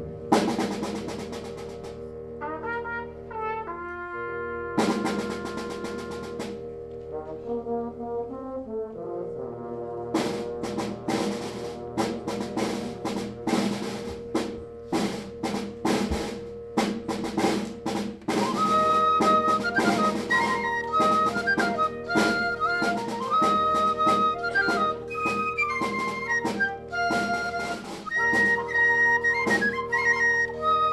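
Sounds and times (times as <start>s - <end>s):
steady drum strokes: 0.0s - 2.8s, 4.8s - 7.4s, 10.0s - 30.2s
concert band playing: 0.0s - 30.9s
held brass chords: 0.0s - 30.9s.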